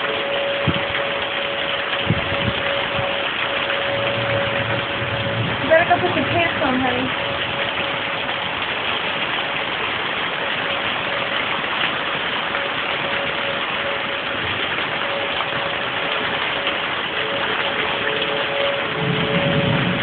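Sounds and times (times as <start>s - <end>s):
lower siren tone: 0.0s - 8.8s, 10.4s - 20.0s
distant warning siren: 0.0s - 20.0s
heavy rain and wind: 0.0s - 20.0s.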